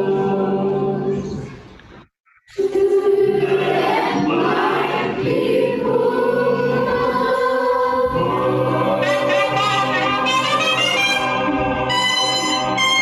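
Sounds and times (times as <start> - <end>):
choir singing gospel song: 0.0 - 1.4, 2.5 - 13.0.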